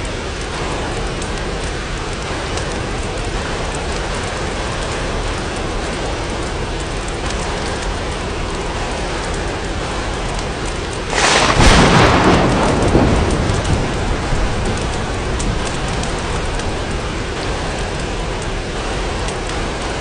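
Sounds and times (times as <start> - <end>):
rain falling on glass: 0.0 - 20.0
thunder clap rumbling: 0.0 - 20.0.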